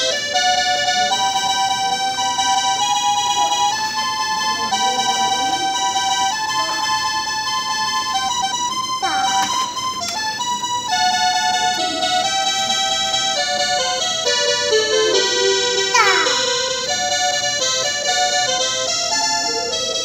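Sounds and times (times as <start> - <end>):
toy keyboard melody: 0.0 - 20.0.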